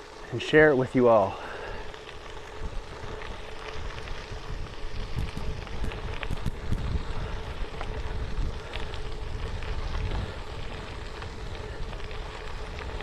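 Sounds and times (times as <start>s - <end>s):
bike clicks and rattles: 0.0s - 13.0s
tyres rumbling on trail: 0.0s - 13.0s
wind buffeting microphone: 1.8s - 13.0s.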